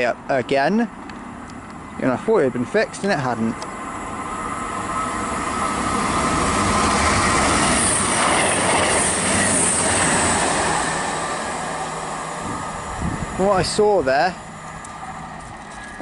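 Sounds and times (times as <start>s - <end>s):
diesel train passing: 0.0s - 16.0s.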